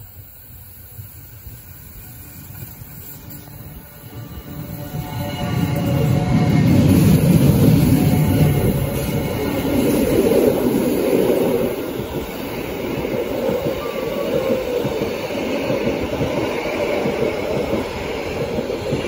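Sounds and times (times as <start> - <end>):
train carriages rumbling on rails: 0.0 - 19.0.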